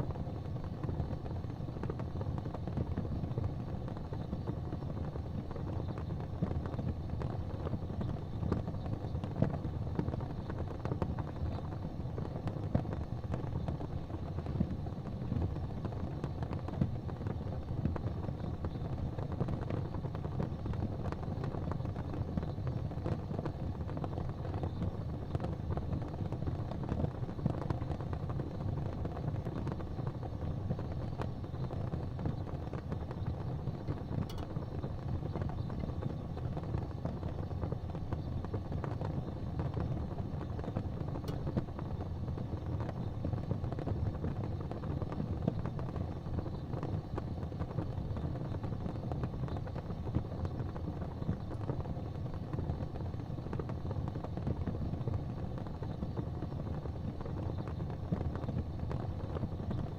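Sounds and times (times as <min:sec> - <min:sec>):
fire burning in fireplace: 0:00.0 - 0:59.9.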